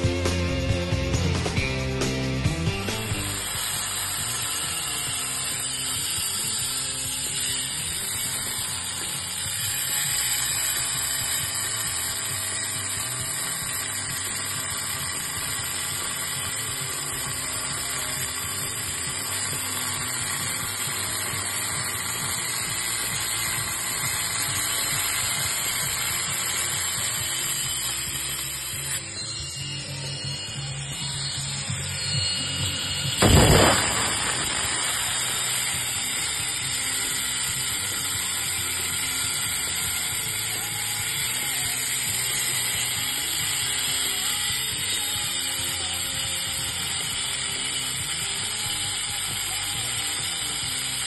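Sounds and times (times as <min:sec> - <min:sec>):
angle grinder cutting tile: 0:00.0 - 0:51.0.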